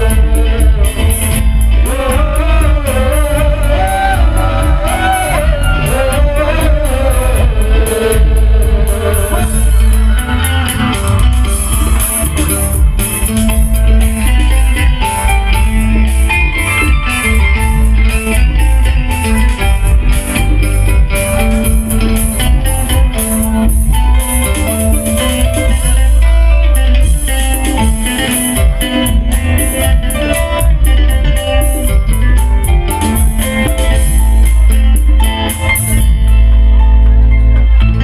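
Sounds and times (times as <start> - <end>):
electric bass guitar: 0.0 - 38.0
guitar: 0.0 - 38.0
steady beat: 0.0 - 38.0.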